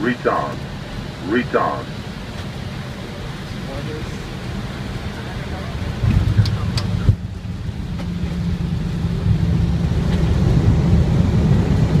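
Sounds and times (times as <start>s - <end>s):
airliner cockpit rumble: 0.0s - 12.0s.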